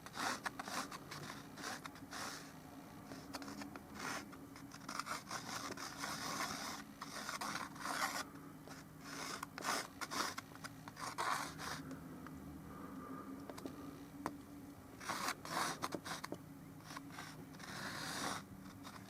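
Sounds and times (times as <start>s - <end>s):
brush scratching paint strokes: 0.0s - 11.9s, 15.0s - 19.0s.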